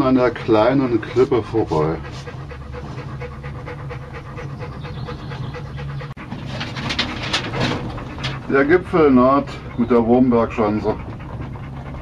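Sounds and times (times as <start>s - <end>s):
dog panting: 0.0s - 12.0s
low hum of cable car: 0.0s - 12.0s.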